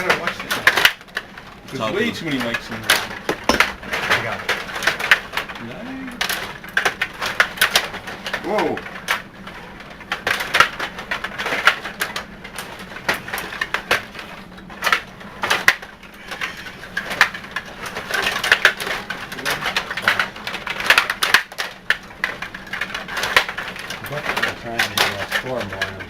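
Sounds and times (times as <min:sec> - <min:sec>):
table hockey pieces clacking: 0:00.0 - 0:26.0.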